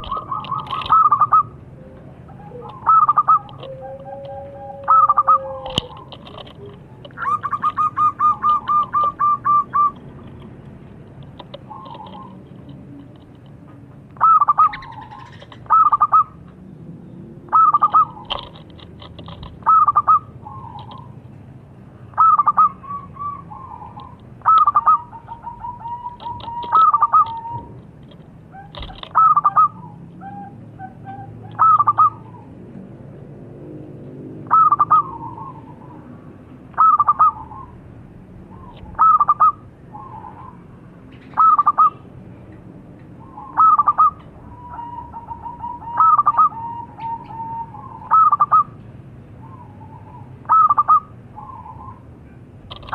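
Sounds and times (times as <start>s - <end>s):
dove cooing: 0.0s - 10.2s, 11.3s - 13.4s, 14.2s - 16.4s, 17.5s - 21.2s, 22.1s - 32.6s, 34.4s - 42.1s, 43.2s - 48.8s, 49.4s - 52.9s.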